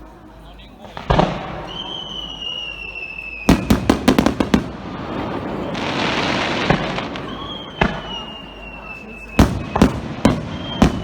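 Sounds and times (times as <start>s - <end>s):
firework hiss: 0.0s - 11.0s
firework whistle: 0.0s - 11.0s
firework bangs: 0.8s - 11.0s.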